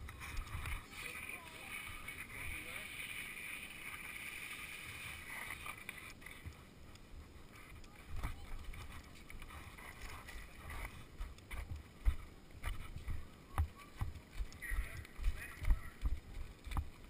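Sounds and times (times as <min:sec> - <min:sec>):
bike tyres on gravel: 0:00.0 - 0:17.0.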